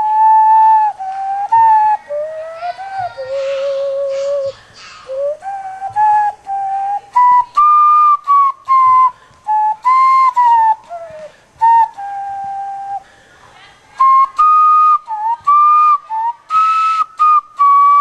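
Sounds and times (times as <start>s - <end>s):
hand whistle playing a tune: 0.0s - 13.1s, 14.0s - 18.0s.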